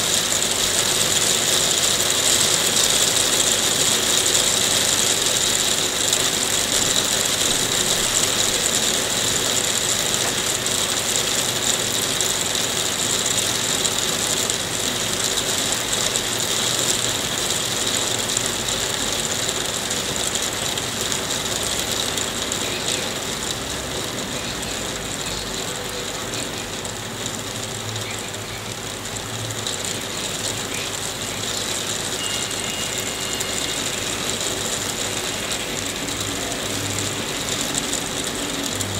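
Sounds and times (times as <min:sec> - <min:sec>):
hailstones clattering: 0:00.0 - 0:38.9.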